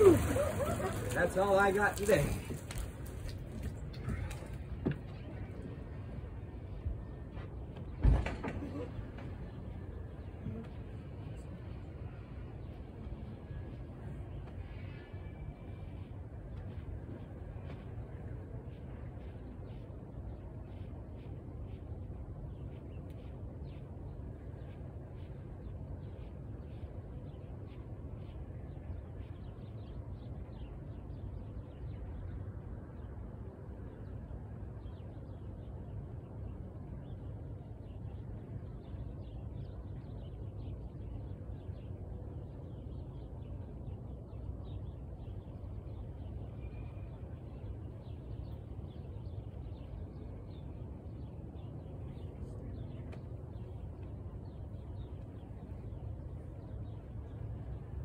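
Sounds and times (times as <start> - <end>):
steady low rumble: 2.3 - 58.0.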